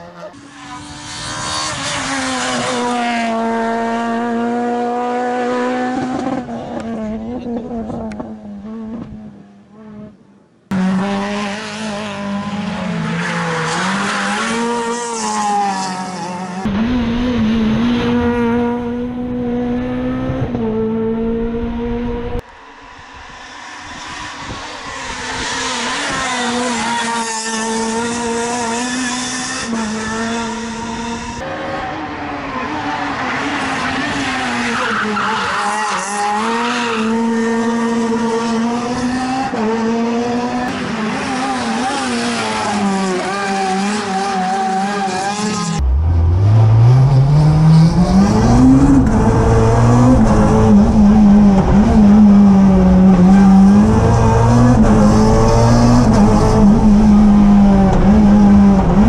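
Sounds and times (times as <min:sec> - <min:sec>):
rally car engine at high revs: 0:00.0 - 0:22.4, 0:23.2 - 0:59.0.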